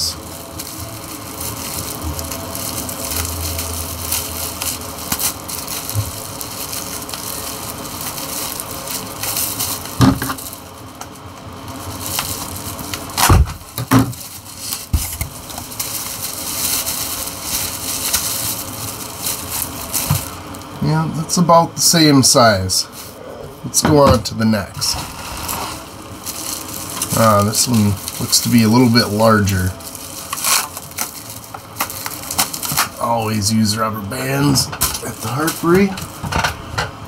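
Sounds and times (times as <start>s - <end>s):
packaging crinkling: 0.0s - 36.8s.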